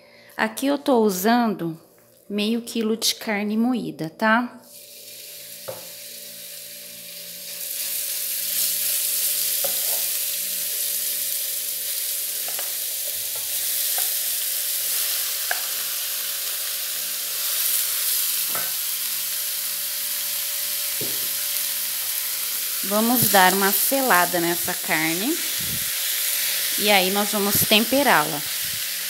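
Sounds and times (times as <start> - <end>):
meat sizzling in hot oil: 4.6 - 29.0.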